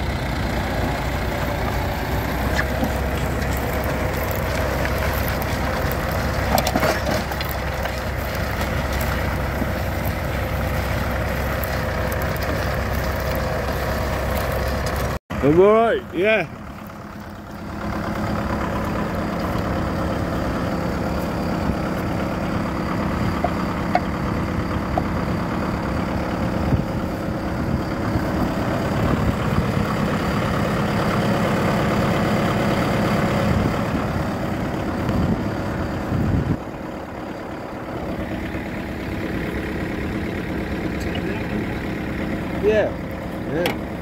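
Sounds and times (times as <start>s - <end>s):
tractor engine idling: 0.0s - 44.0s.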